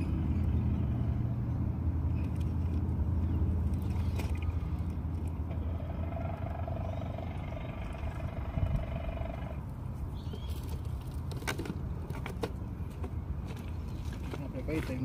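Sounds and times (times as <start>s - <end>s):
engine drone: 0.0s - 12.2s
traffic rumble: 0.0s - 15.0s.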